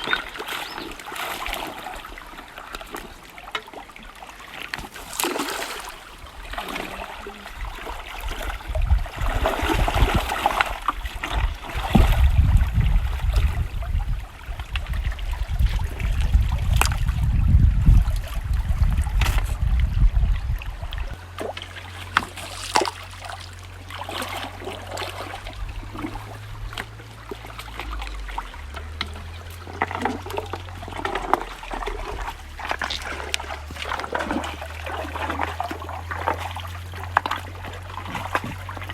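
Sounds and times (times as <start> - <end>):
small sharp splashes: 0.0 - 17.2, 21.1 - 38.9
river water trickling: 0.0 - 38.9
heavy low rumble: 5.9 - 38.9.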